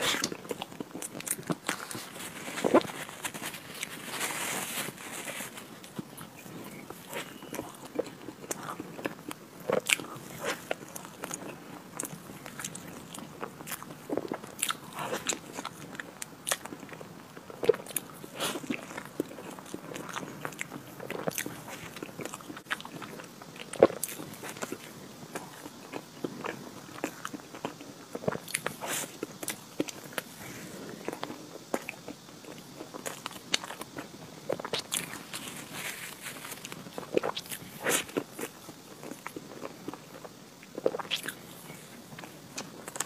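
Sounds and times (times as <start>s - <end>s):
chewing and biting: 0.0s - 30.3s, 31.0s - 43.0s.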